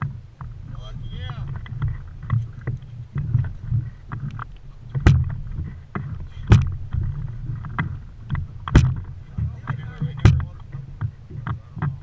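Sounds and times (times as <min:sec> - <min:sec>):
low steady rumble: 0:00.0 - 0:12.0
water slapping against boat hull: 0:00.0 - 0:12.0.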